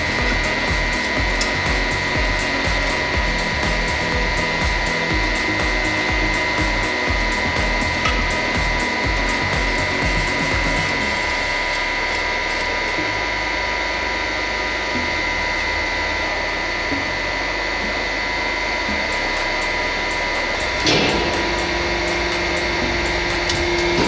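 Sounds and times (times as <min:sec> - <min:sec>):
hydraulic press pump hum: 0:00.0 - 0:24.0.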